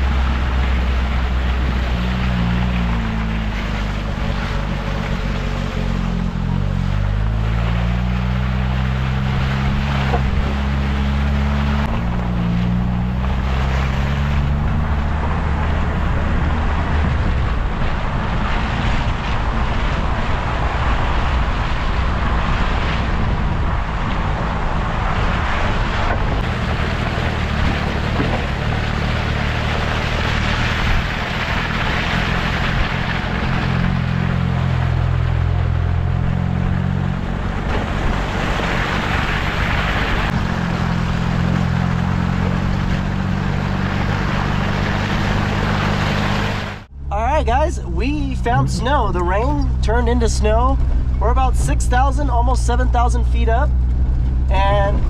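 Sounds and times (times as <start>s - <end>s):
tyre and wind noise: 0.0s - 52.5s
car engine revving: 0.0s - 55.0s.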